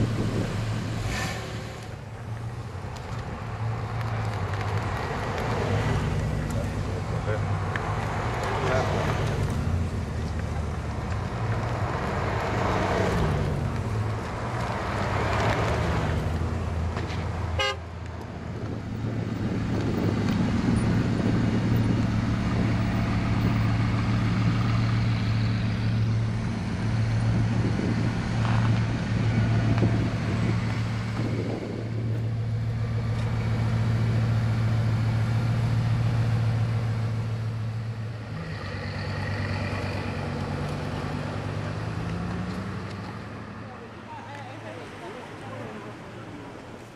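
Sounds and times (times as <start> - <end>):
car engines running at low revs: 0.0 - 46.0.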